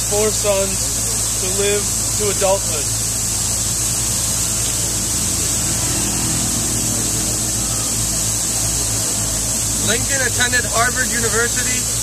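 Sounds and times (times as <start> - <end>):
city street traffic hum: 0.0 - 12.0.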